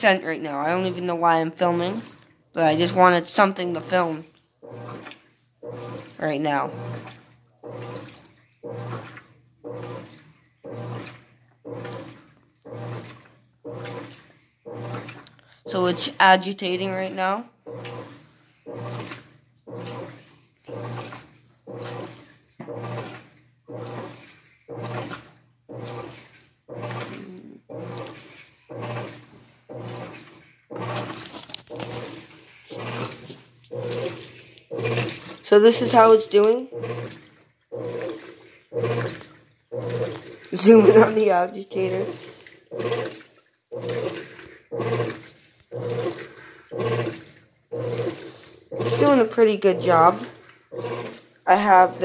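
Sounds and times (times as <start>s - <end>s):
washing machine agitating: 0.0s - 52.0s
water swishing: 0.0s - 52.0s.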